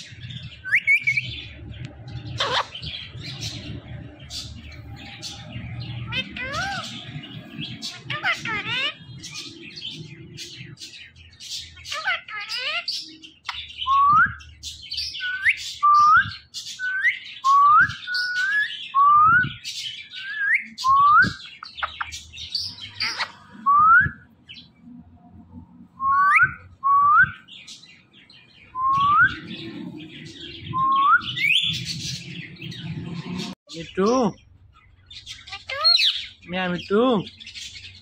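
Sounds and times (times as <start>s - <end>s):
bird chirps: 0.0s - 25.0s, 25.9s - 38.0s.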